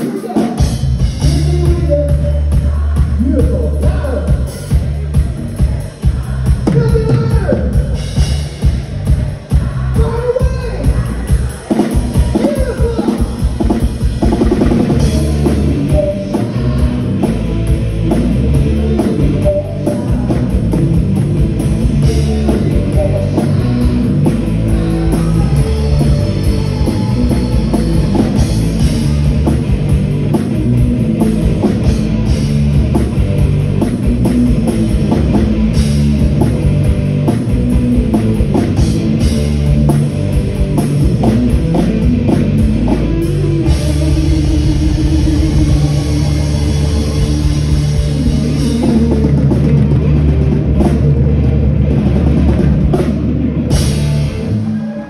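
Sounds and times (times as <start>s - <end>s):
driving drum kit: 0.0s - 54.7s
distorted electric guitar: 0.0s - 55.0s.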